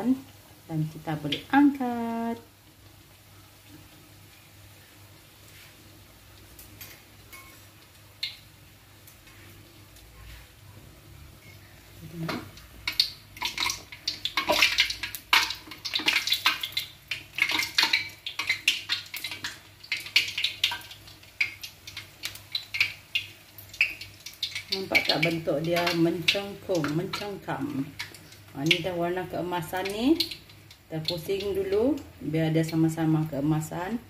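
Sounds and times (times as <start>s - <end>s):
hot oil sizzling: 0.0s - 34.0s.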